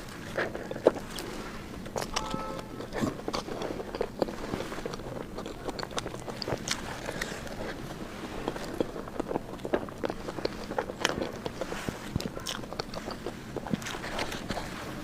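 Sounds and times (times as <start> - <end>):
chewing soft food: 0.0 - 15.0.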